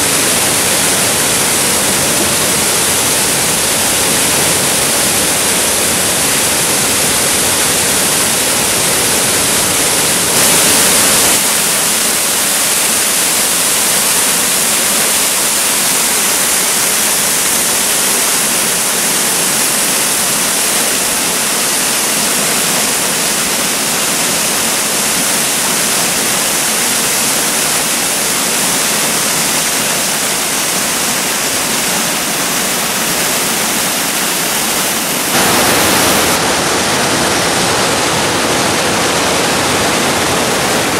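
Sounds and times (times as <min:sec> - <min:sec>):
waterfall rushing into pool: 0:00.0 - 0:40.9.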